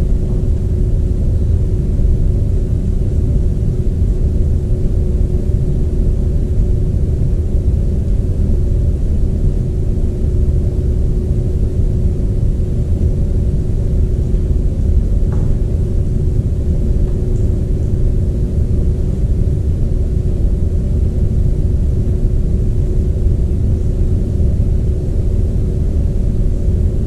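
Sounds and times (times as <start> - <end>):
building machinery rumble and hum: 0.0 - 27.0.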